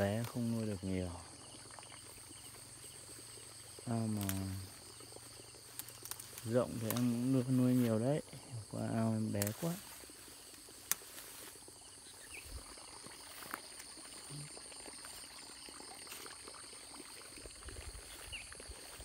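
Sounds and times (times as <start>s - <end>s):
insect chirring: 0.0s - 19.0s.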